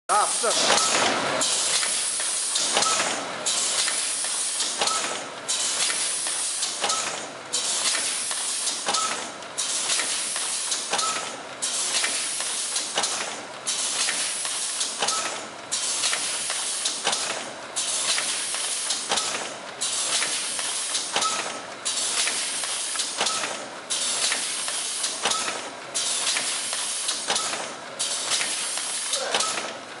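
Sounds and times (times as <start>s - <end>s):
packaging machine hiss: 1.4s - 6.9s, 7.5s - 29.6s.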